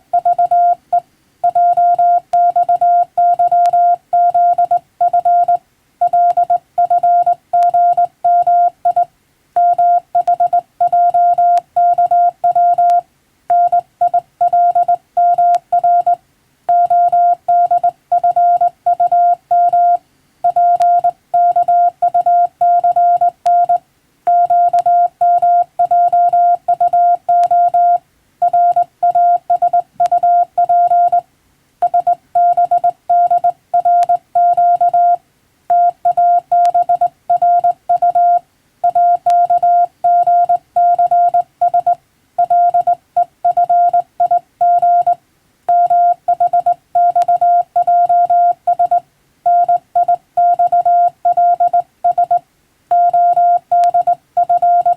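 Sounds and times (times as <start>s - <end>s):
morse code tone: 0.1s - 31.2s, 31.8s - 54.9s.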